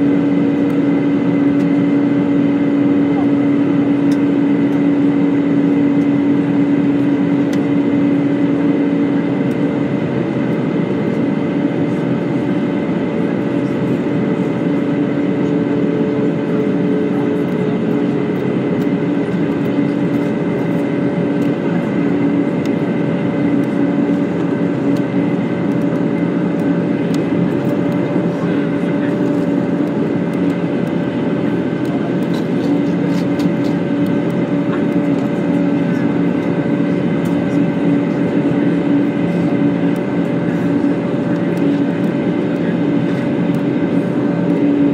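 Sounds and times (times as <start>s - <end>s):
jet engines droning: 0.0s - 44.9s
steady humming tones: 0.0s - 44.9s.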